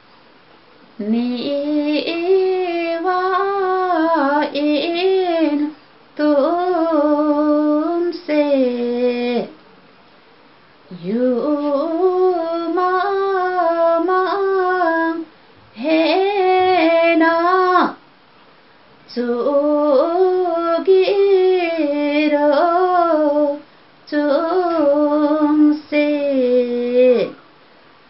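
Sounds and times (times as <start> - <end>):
woman singing unaccompanied: 0.9 - 9.6, 10.9 - 18.0, 19.0 - 27.4.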